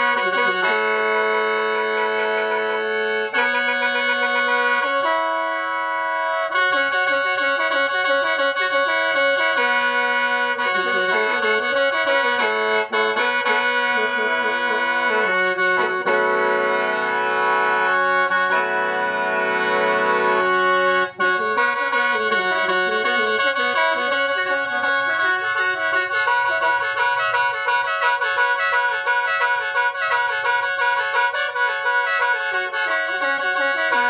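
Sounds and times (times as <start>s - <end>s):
bamboo mouth organ melody: 0.0s - 34.0s.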